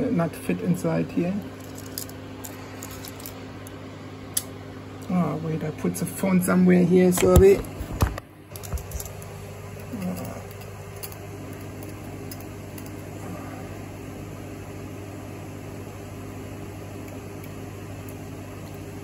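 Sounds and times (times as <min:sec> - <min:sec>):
steady low hum with hiss: 0:00.0 - 0:19.0.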